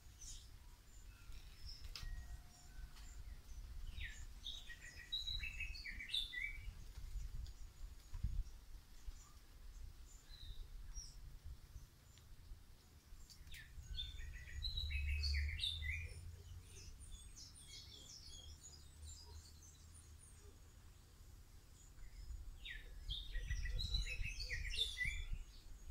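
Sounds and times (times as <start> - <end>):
birds chirping and singing: 0.0 - 11.2, 13.2 - 25.9.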